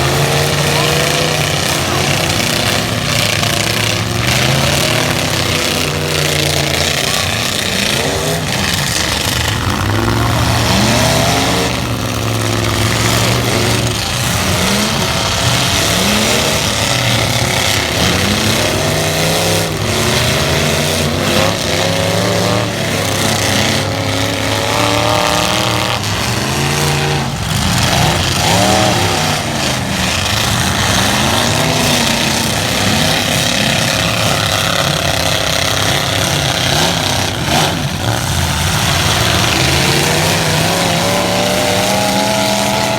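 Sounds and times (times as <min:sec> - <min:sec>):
truck engines revving: 0:00.0 - 0:42.9.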